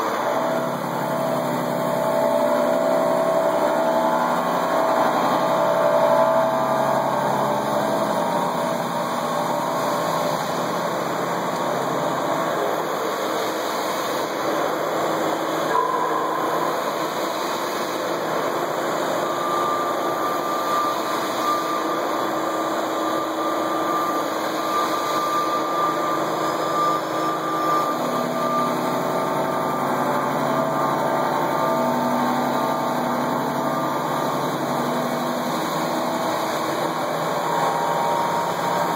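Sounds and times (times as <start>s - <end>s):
higher steady tone: 0.0s - 12.6s, 18.4s - 38.9s
milling cutter machining steel: 0.0s - 38.9s.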